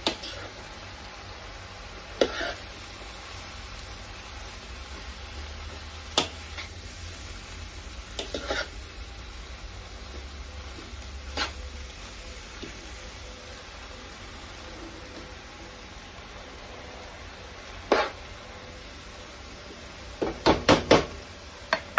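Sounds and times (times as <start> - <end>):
cabbage sizzling in a pan: 0.0 - 21.9.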